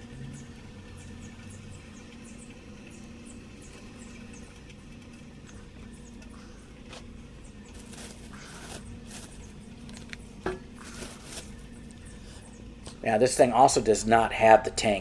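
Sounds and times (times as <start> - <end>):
faint bird chirping: 0.0 - 13.2
low background hum: 0.0 - 15.0.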